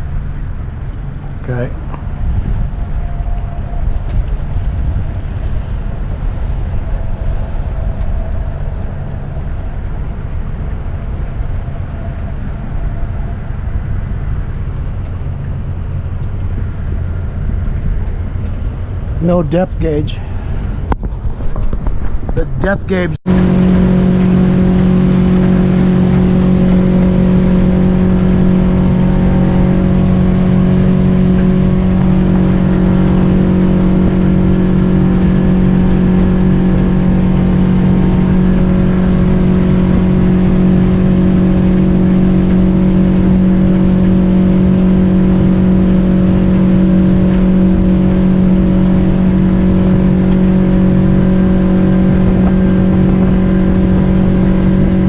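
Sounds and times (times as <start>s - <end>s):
boat motor running: 0.0s - 55.0s.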